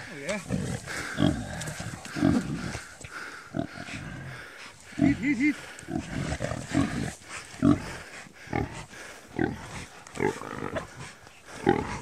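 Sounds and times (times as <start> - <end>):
pig grunting and squealing: 0.3 - 12.0.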